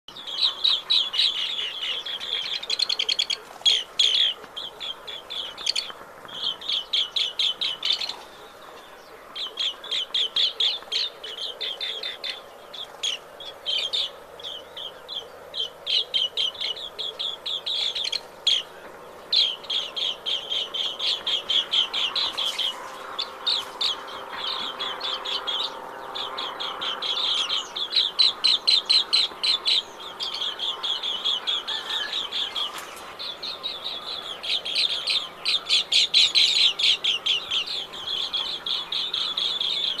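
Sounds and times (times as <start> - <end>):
birds trilling chirps: 0.1 - 40.0.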